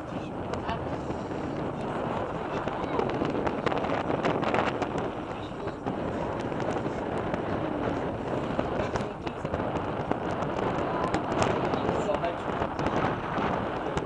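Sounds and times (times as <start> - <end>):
rushing noise in cable car cabin: 0.0 - 14.0
small crackles and pops: 0.0 - 14.0.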